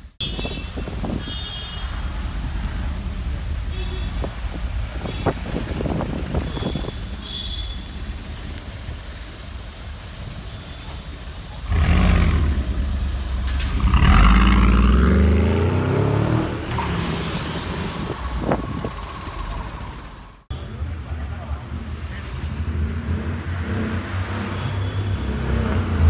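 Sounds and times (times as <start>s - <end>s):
engine rumbling and accelerating: 1.8s - 26.0s.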